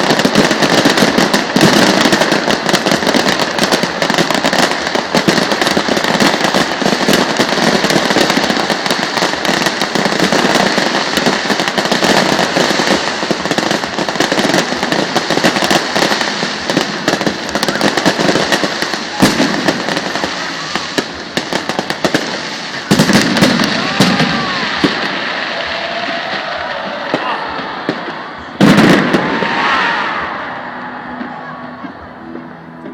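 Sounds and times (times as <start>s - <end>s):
fireworks crackling and popping: 0.0s - 32.9s
loud firework bangs: 0.0s - 32.9s.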